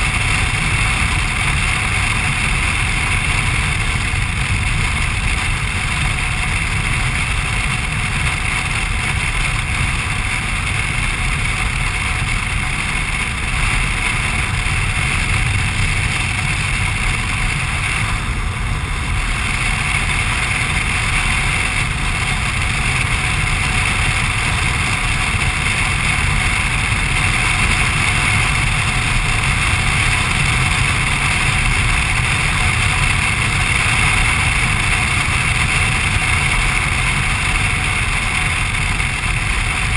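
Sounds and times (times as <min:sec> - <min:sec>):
motorcycle engine cruising: 0:00.0 - 0:39.9
wind rush: 0:00.0 - 0:39.9.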